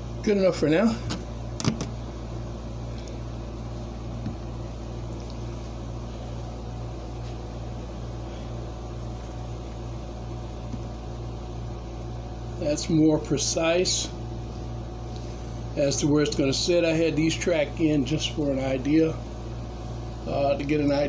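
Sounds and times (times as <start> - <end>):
machinery hum and hiss: 0.0 - 21.0.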